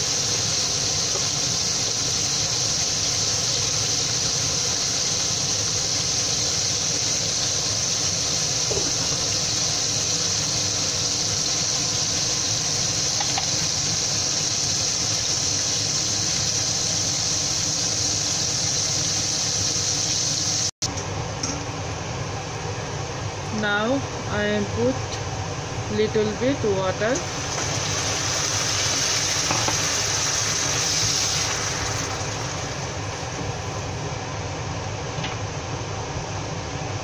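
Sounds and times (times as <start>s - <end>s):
chicken frying in hot oil: 0.0s - 34.2s.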